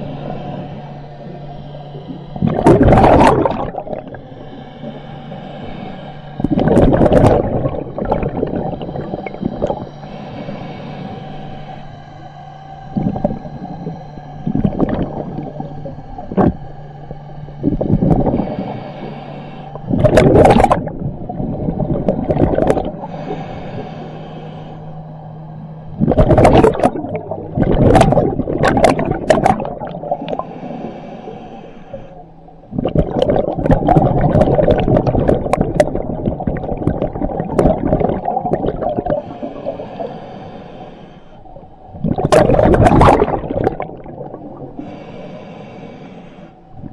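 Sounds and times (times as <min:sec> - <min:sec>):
exhaled bubbles: 0:00.0 - 0:11.6, 0:12.8 - 0:24.9, 0:25.8 - 0:31.0, 0:32.6 - 0:40.4, 0:41.4 - 0:45.4, 0:46.7 - 0:46.9
hissing regulator inhalations: 0:00.0 - 0:42.3, 0:42.9 - 0:46.9
low steady hum: 0:00.0 - 0:46.9.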